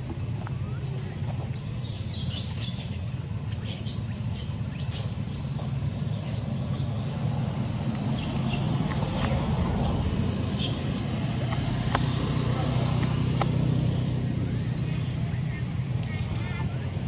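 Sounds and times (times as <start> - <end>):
birds chirping: 0.0 - 17.0
low rumble of distant traffic: 0.0 - 17.0.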